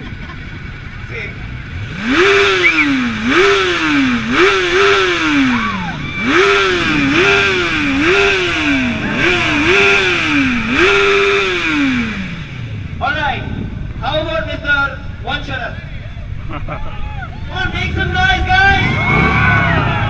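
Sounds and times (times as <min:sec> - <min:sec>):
motorcycle engine revving: 0:00.0 - 0:15.3, 0:17.5 - 0:20.0.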